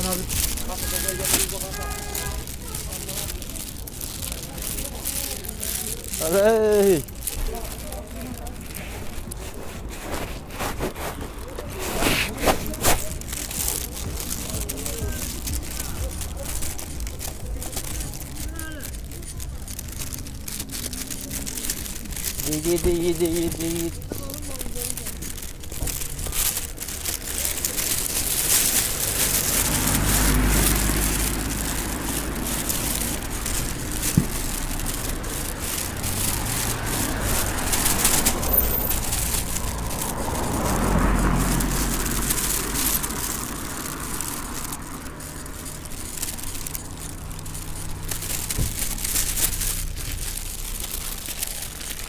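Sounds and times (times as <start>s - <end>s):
car engines running: 0.0s - 52.0s
vehicles passing: 0.0s - 52.0s.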